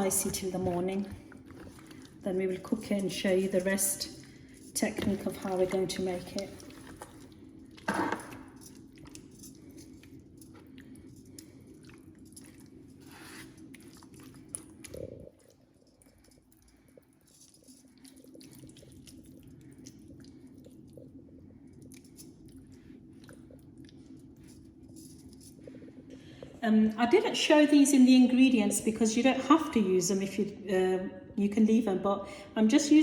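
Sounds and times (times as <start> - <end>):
soft handling clicks and squishes: 0.0 - 26.6
low steady hum: 0.0 - 33.0.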